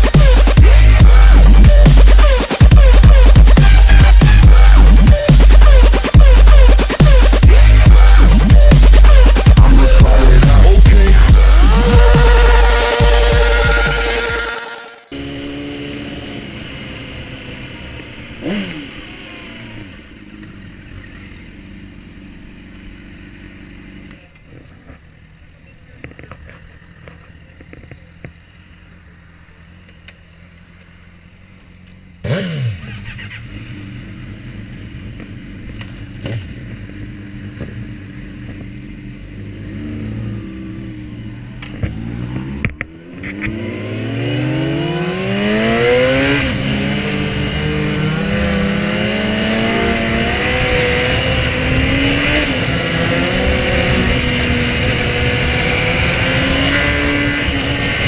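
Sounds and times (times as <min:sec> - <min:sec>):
motorcycle engine starting and revving: 0:00.0 - 0:58.0.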